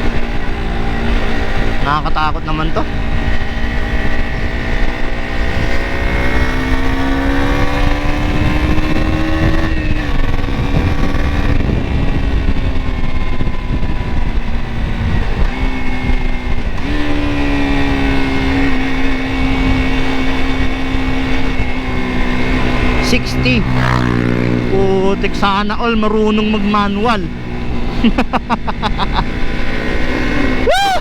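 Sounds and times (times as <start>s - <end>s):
motorcycle engine accelerating: 0.0s - 31.0s
wind rumble on microphone: 0.0s - 31.0s.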